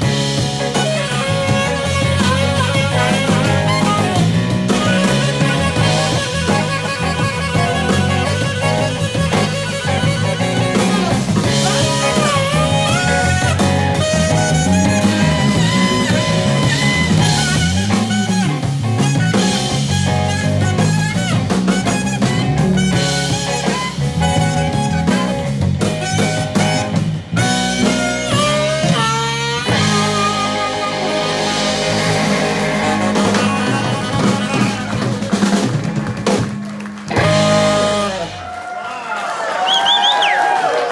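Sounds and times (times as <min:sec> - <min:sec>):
blues band playing: 0:00.0 - 0:40.9.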